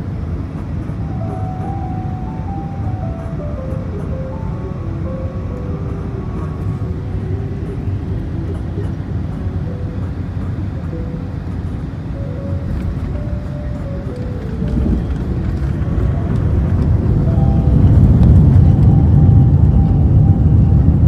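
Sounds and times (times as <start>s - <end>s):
airplane low rumble: 0.0s - 21.0s.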